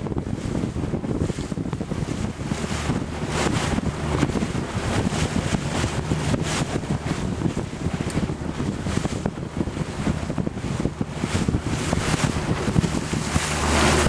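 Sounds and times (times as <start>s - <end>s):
boat engine hum: 0.0s - 14.0s
wind buffeting microphone: 0.0s - 14.0s.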